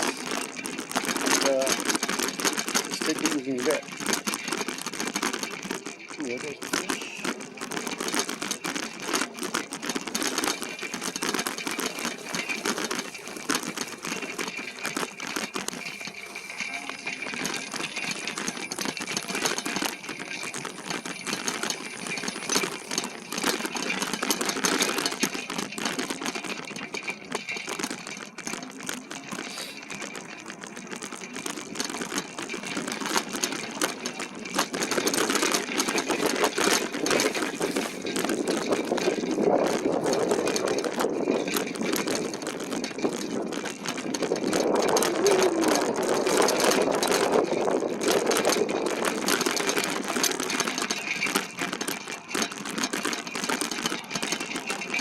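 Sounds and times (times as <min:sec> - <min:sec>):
bike frame rattling on rough trail: 0:00.0 - 0:55.0.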